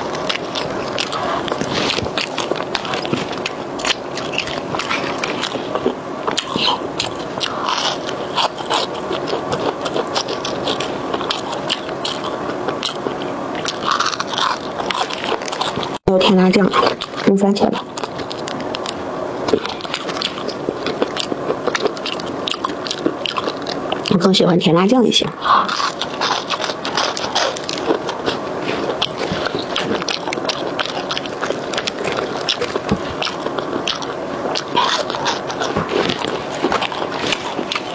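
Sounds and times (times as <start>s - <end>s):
chewing crispy fried food: 0.0s - 24.2s, 25.4s - 37.9s.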